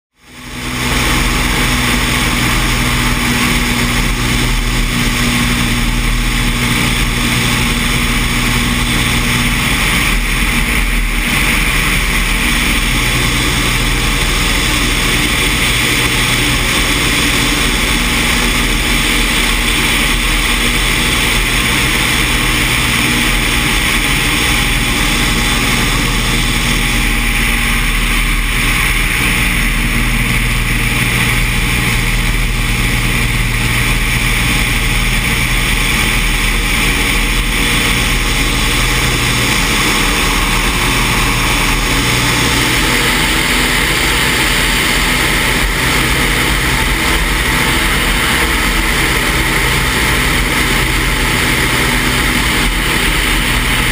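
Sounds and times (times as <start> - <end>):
airplane engine and propeller: 0.1 - 53.9
loud rushing wind: 0.2 - 53.9.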